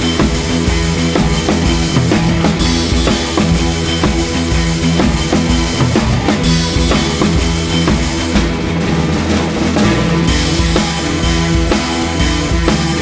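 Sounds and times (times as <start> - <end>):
band music with drum kit: 0.0 - 13.0.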